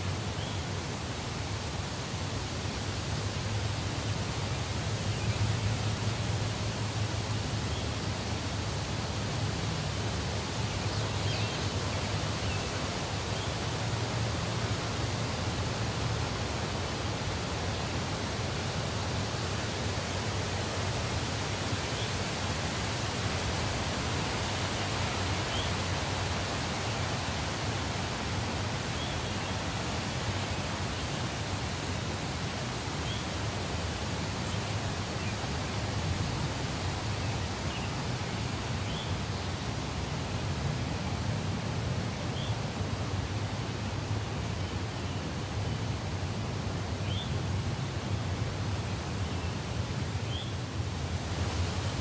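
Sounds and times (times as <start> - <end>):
stream flowing over rocks: 0.0 - 52.0.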